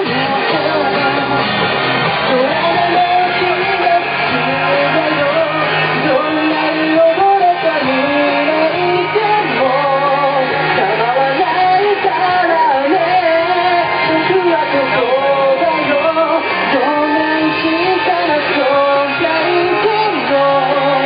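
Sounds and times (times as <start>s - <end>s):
guitar music: 0.0s - 21.0s
man singing into microphone: 0.0s - 21.0s.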